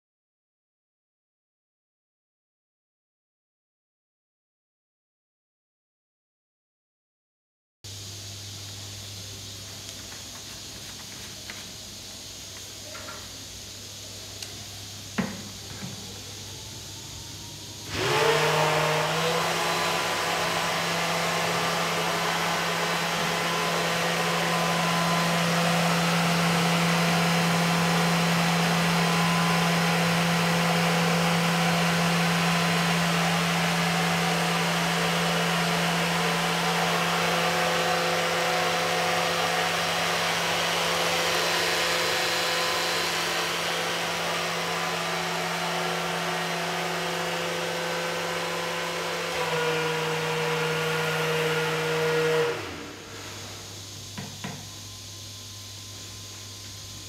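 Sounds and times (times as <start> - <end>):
pump motor humming and whining: 7.9 - 57.0.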